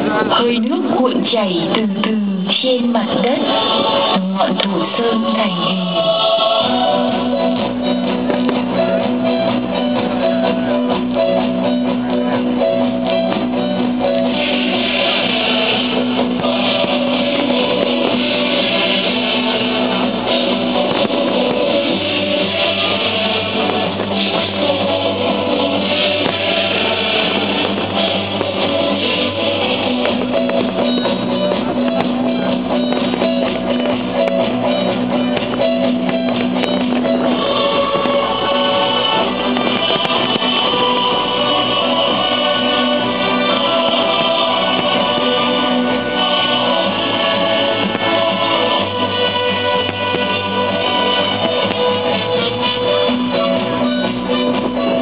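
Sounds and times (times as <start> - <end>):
music with steady beat: 0.0 - 55.0.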